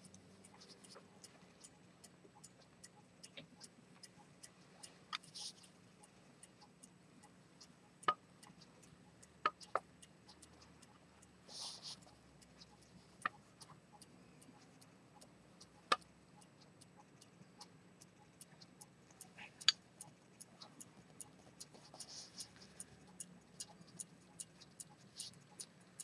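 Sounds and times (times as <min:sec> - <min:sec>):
pocket watch ticking: 0:00.0 - 0:26.0.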